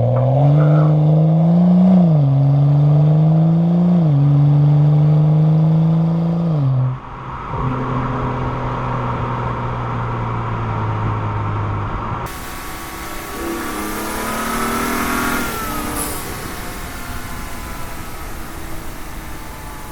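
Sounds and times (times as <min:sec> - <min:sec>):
car engine accelerating: 0:00.0 - 0:19.9.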